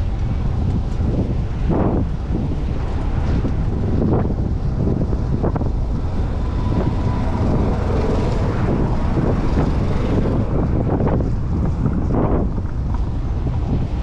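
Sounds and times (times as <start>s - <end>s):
street traffic: 0.0s - 14.0s
wind buffeting microphone: 0.0s - 14.0s.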